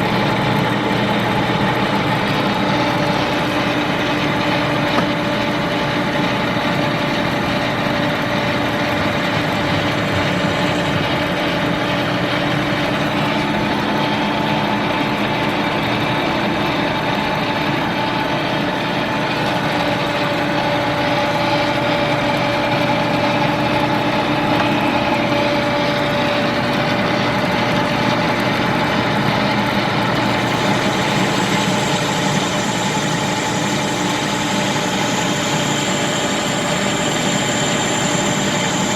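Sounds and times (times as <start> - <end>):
lathe running: 0.0 - 38.9.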